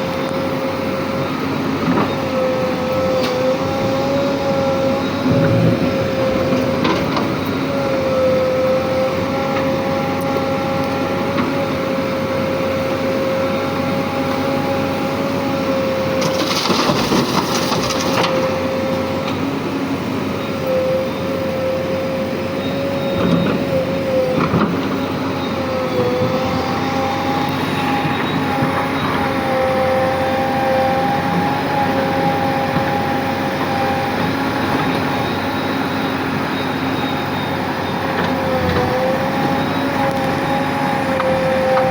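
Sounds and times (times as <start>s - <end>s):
diesel engine running with whine: 0.0s - 41.9s.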